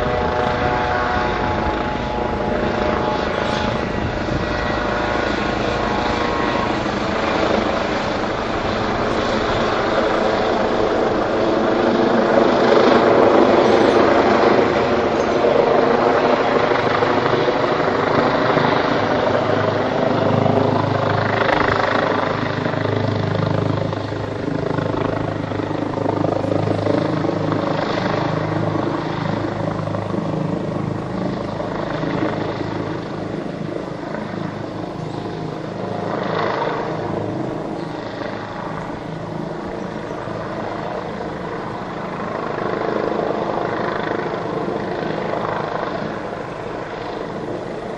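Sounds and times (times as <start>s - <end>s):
helicopter hovering overhead: 0.0s - 47.9s.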